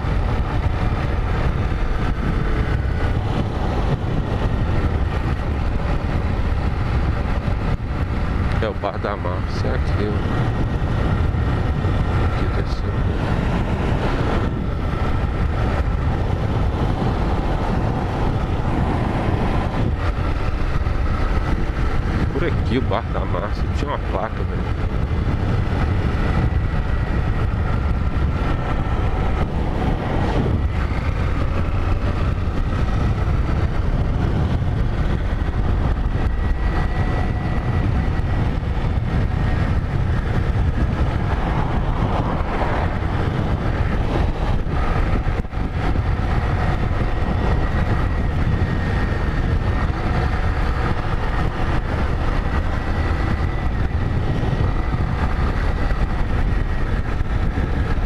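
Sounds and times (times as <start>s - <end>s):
motorcycle engine rumble: 0.0s - 58.0s
road and wind noise: 0.0s - 58.0s.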